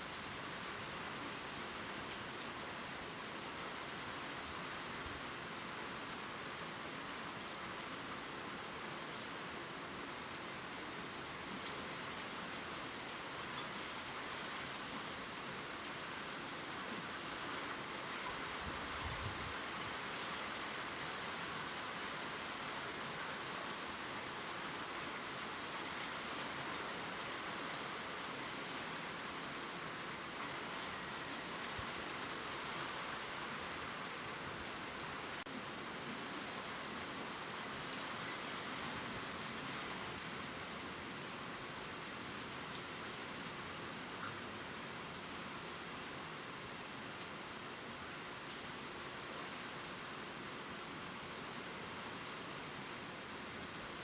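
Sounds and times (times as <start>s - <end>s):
rain pattering on leaves: 0.0s - 54.0s.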